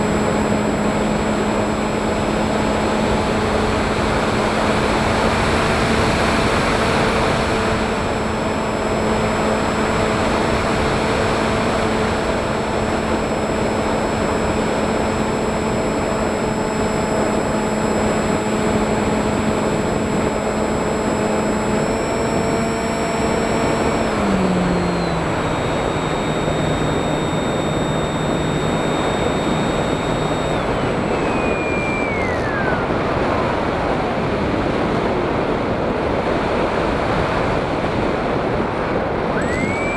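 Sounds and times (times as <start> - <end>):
drone motors whining: 0.0 - 34.4, 39.0 - 39.9.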